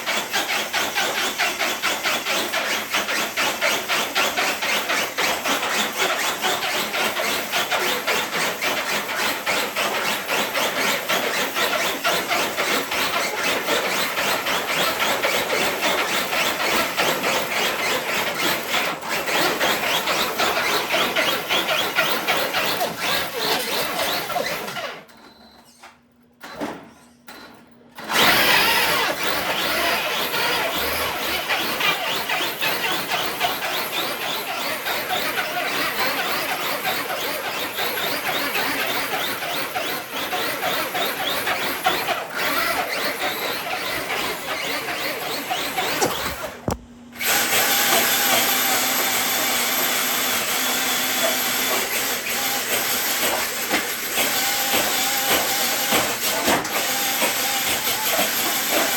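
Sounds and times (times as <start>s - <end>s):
electric toy truck motor running: 0.0s - 25.1s, 28.0s - 58.9s.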